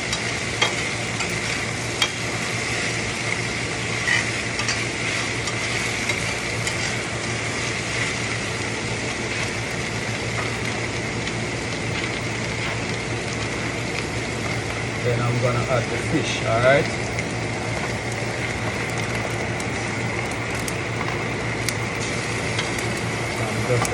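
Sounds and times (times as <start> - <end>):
vegetables sizzling in oil: 0.0 - 23.9.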